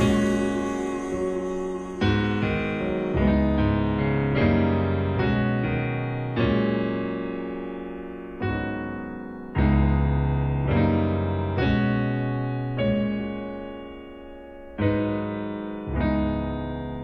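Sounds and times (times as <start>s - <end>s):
electric piano slow chords: 0.0s - 17.0s.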